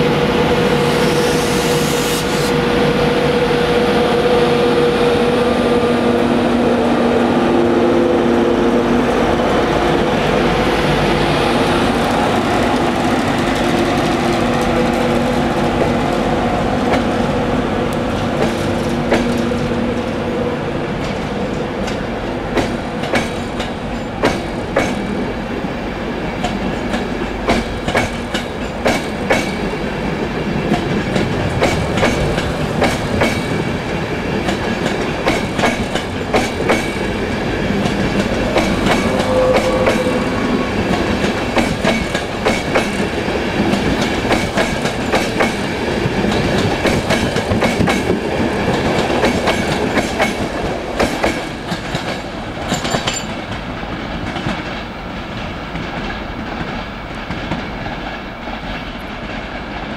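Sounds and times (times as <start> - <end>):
train wheel and rail rumble: 0.0 - 59.9.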